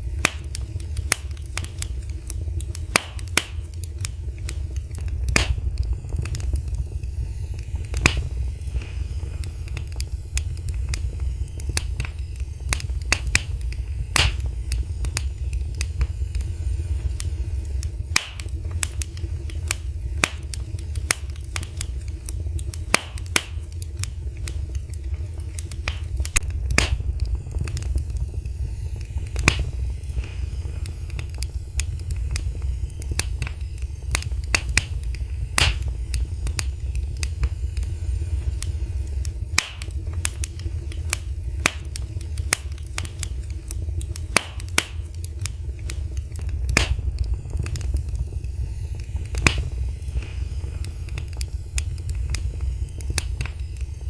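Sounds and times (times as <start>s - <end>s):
low rumble: 0.0s - 54.0s
wood fire crackling: 0.0s - 54.0s.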